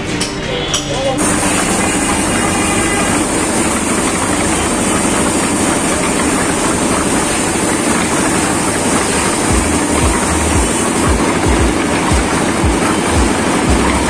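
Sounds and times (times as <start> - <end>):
concrete mixer running: 0.0 - 14.0.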